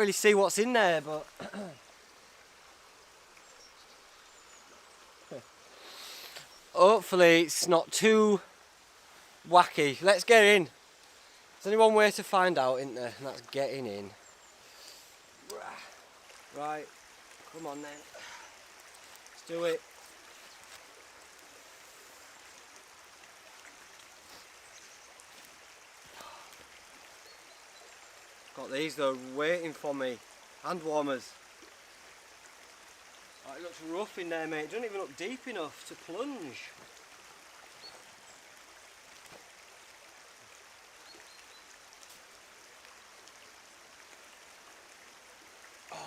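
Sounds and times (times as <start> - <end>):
running water rushing: 0.0 - 46.0
stream trickling: 0.0 - 46.0.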